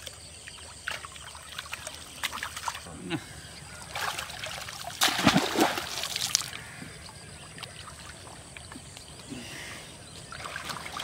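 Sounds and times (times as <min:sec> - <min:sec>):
water splashing: 0:00.0 - 0:02.9, 0:03.8 - 0:09.0, 0:10.2 - 0:11.0.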